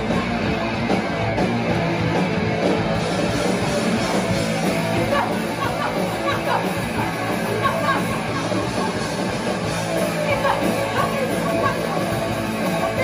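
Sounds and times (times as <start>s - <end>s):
electric guitars: 0.0s - 13.0s
punk band playing loud: 0.0s - 13.0s.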